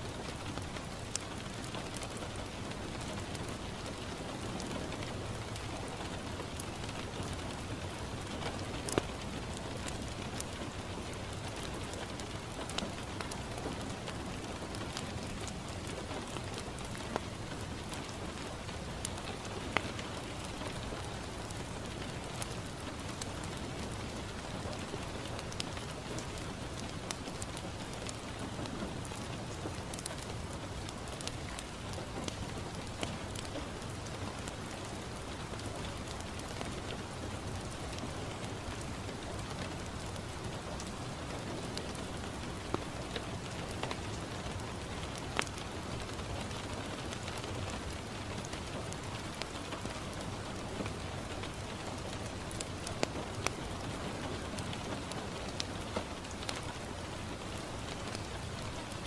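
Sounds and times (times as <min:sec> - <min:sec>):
rain on a window: 0:00.0 - 0:59.0
wood fire crackling and popping: 0:00.0 - 0:59.0.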